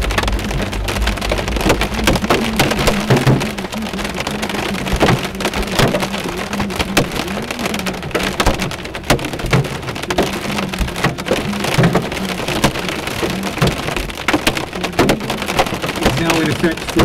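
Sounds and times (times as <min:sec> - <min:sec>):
hailstones knocking on car: 0:00.0 - 0:17.0
heavy rain on car roof: 0:00.0 - 0:17.0.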